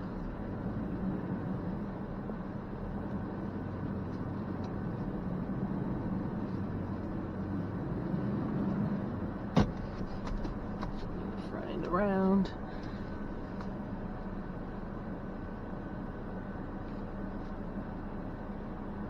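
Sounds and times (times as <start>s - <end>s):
pickup engine hum: 0.0s - 19.0s.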